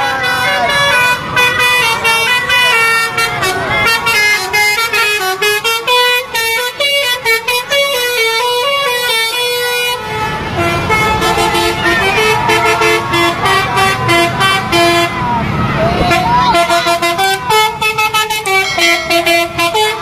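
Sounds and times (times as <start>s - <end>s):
musical vehicle horn tune: 0.0s - 20.0s.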